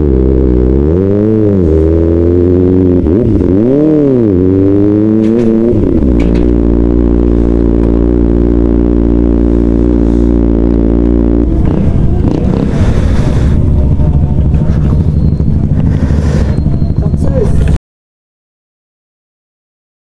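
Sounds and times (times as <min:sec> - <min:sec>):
motorcycle engine at low revs: 0:00.0 - 0:17.8.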